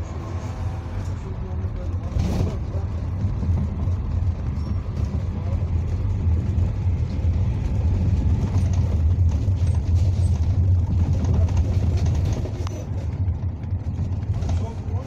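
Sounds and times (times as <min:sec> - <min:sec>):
bus engine drone: 0:00.0 - 0:15.0
road and tyre rumble: 0:00.0 - 0:15.0.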